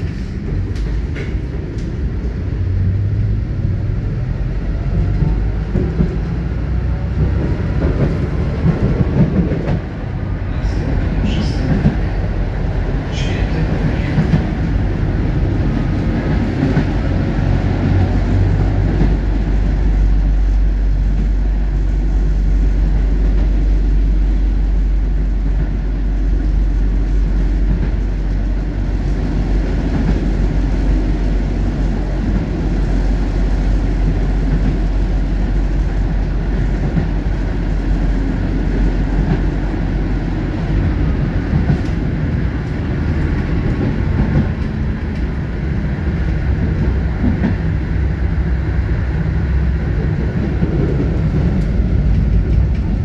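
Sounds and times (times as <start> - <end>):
tram wheels rumbling on rail: 0.0 - 53.0.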